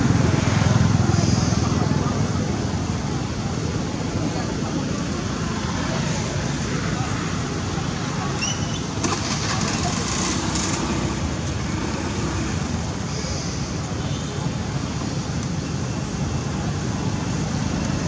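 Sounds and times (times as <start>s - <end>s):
distant traffic rumble and hiss: 0.0s - 18.0s
faint voices: 0.0s - 18.0s.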